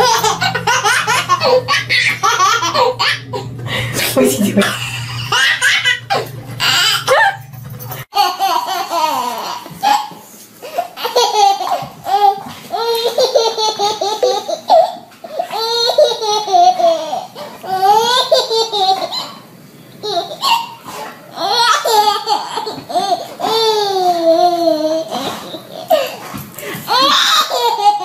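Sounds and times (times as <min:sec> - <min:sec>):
baby laughing: 0:00.0 - 0:28.0.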